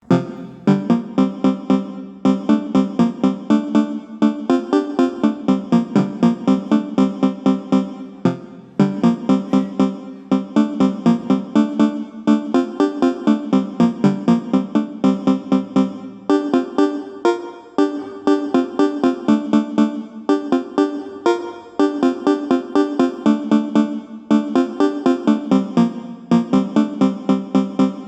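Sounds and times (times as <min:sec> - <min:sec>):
synthesized keyboard ringtone melody: 0:00.1 - 0:28.0.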